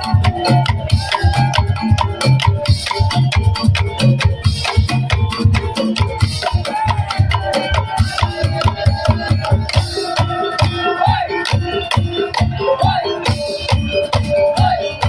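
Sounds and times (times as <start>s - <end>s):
bamboo and wood-block strikes: 0.0s - 15.0s
deep drum beats: 0.0s - 15.0s
melody line: 0.0s - 15.0s.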